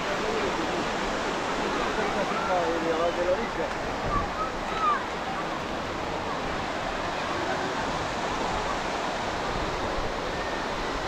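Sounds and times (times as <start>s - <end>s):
ocean surf washing on beach: 0.0s - 11.0s.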